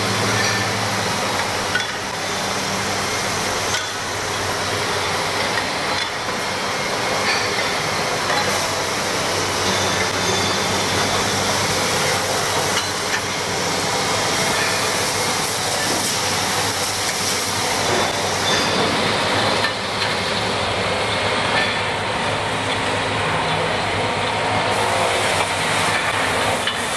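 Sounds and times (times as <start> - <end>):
grinding machine running: 0.0 - 26.9.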